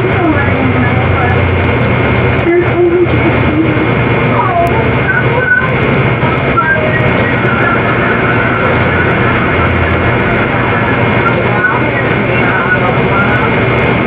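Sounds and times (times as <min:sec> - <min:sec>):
loud steady hiss: 0:00.0 - 0:14.0
low hum: 0:00.0 - 0:14.0.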